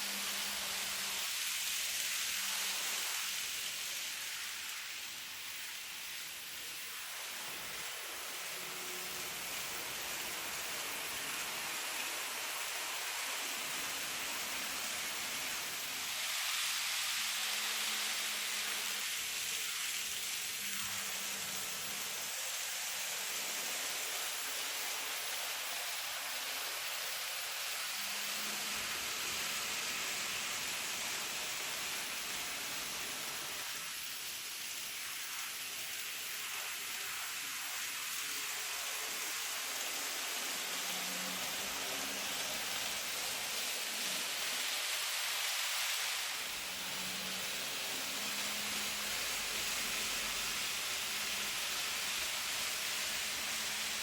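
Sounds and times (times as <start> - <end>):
model train wheels hissing: 0.0 - 54.0.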